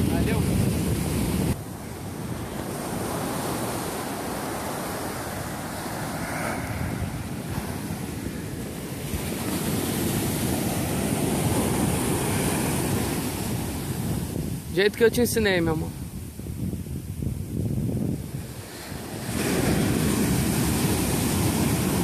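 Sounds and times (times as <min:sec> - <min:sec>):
ocean surf breaking on shore: 0:00.0 - 0:22.0
wind on microphone: 0:00.0 - 0:22.0.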